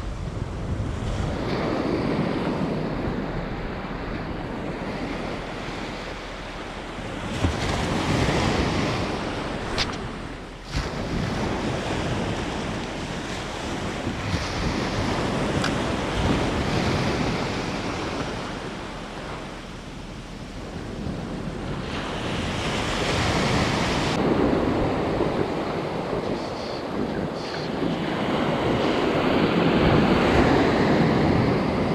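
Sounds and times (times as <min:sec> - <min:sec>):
waves breaking on a beach: 0:00.0 - 0:31.9
wind buffeting microphone: 0:00.0 - 0:31.9.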